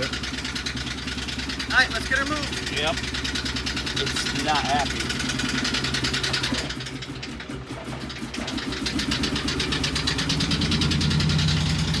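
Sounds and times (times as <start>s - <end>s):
engine knocking rhythmically: 0.0s - 12.0s.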